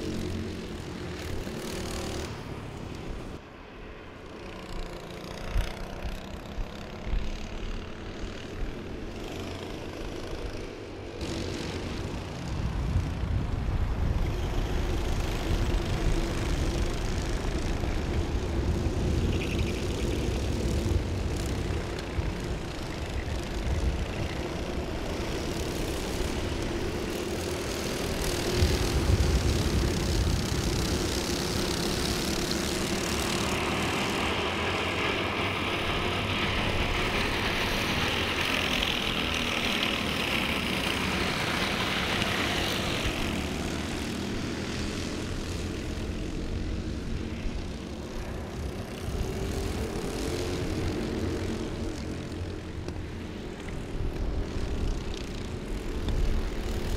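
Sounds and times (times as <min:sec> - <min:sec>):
racing karts buzzing drone: 0:00.0 - 0:56.9.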